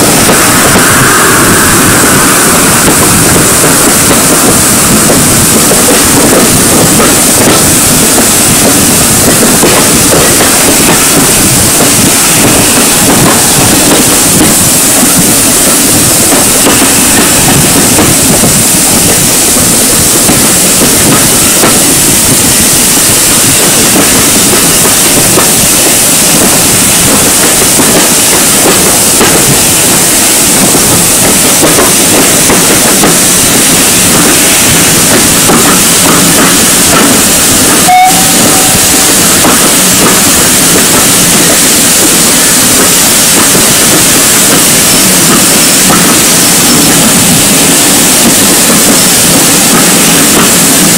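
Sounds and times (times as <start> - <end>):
train wheels rumbling and clattering: 0.0 - 50.9.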